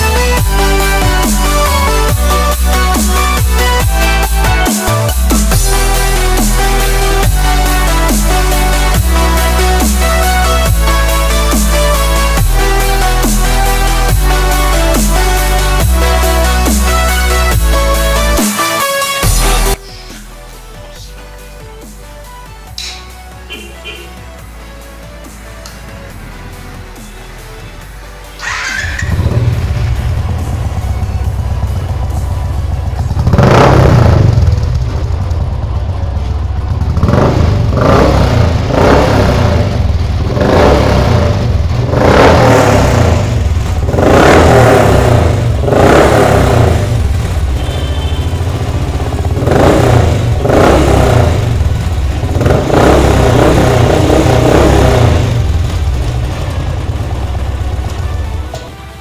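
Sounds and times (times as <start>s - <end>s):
motorcycle engine revving: 0.0s - 19.8s, 22.8s - 26.1s, 26.7s - 59.0s.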